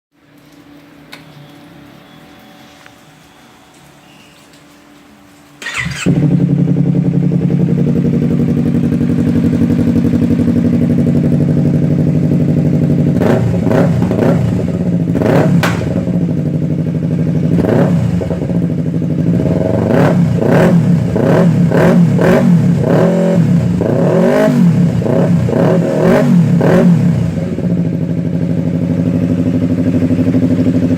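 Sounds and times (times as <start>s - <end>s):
motorcycle engine idling and revving: 5.6s - 30.9s.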